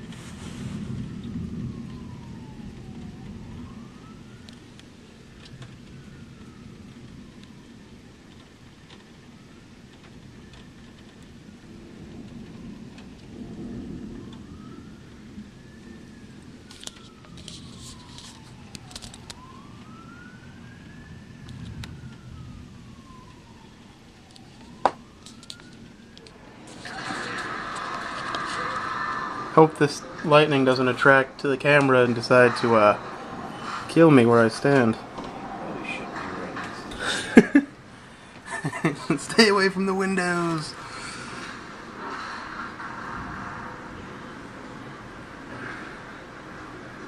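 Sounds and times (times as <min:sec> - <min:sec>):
distant siren wailing: 0:00.0 - 0:47.0
rain and storm hiss: 0:00.0 - 0:47.0
thunder rumble: 0:00.0 - 0:47.0.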